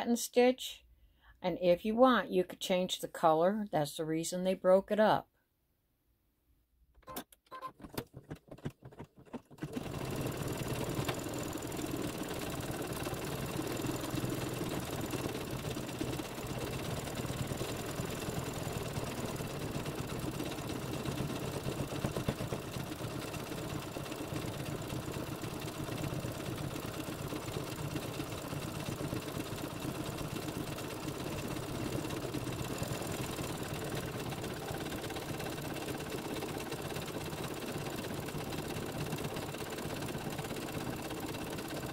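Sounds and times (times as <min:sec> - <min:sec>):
embroidery machine stitching: 0:07.1 - 0:41.9.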